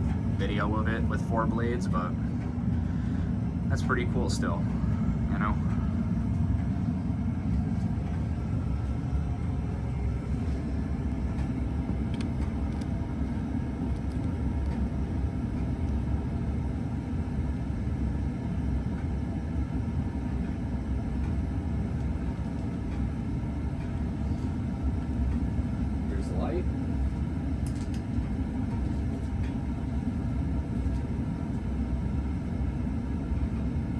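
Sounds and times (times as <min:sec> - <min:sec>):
ceiling fan running: 0:00.0 - 0:33.9.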